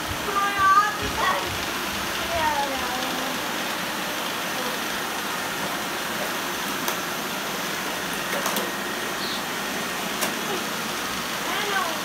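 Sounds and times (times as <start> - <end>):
robot vacuum cleaners whirring: 0.0 - 12.0.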